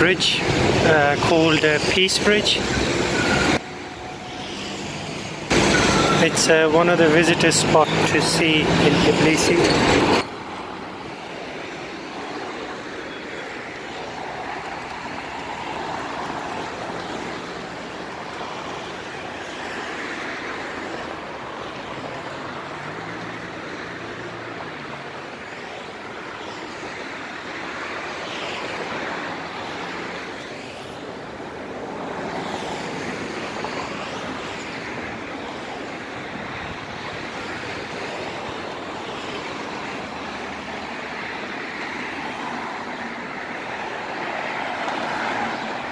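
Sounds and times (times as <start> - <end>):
cars passing: 0.0 - 45.9
street traffic noise: 0.0 - 45.9.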